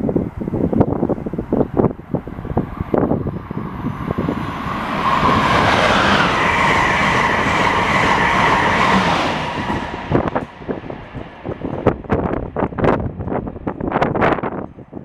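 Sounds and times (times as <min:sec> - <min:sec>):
high-speed train passing: 0:00.0 - 0:15.0
train high whine: 0:00.0 - 0:15.0.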